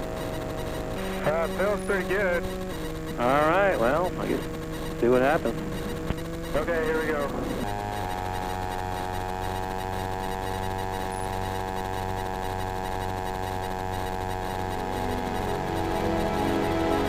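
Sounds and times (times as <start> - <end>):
plane engine and propeller drone: 0.0 - 17.0.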